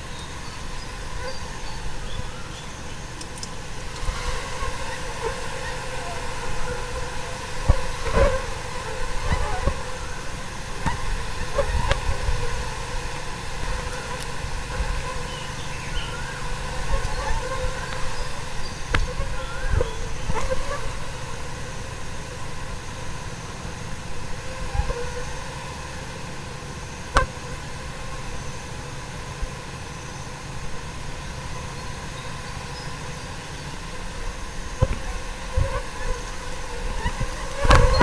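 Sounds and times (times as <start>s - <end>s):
fruit fly swarm humming: 0.0s - 38.0s.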